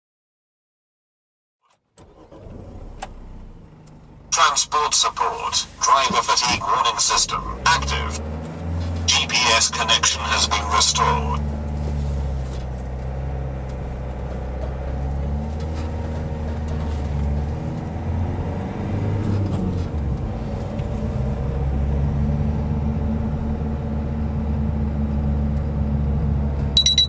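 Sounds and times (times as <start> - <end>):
van engine hum from inside: 2.0 - 27.0.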